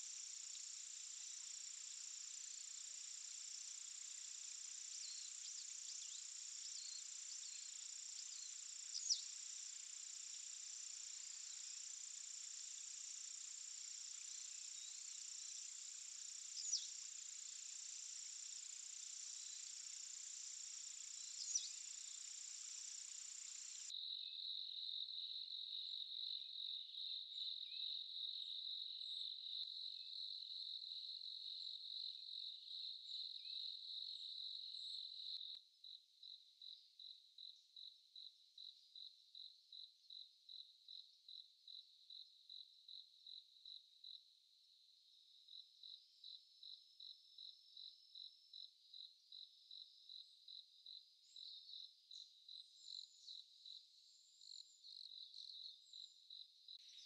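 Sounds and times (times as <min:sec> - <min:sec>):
insects trilling and chirping: 0:00.0 - 0:57.0.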